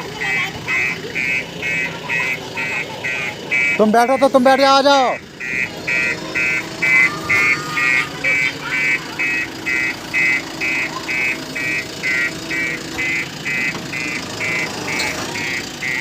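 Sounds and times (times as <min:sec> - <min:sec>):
diesel engine running: 0:00.0 - 0:16.0
reversing alarm beeping: 0:00.0 - 0:16.0.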